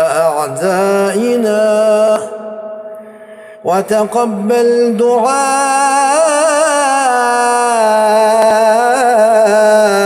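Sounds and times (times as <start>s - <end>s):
man chanting: 0.0s - 10.0s.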